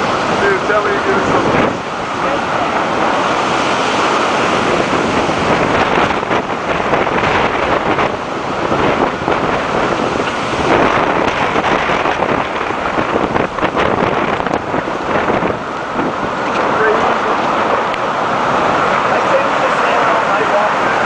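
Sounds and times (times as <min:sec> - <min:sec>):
storm wind gusting on microphone: 0:00.0 - 0:21.0.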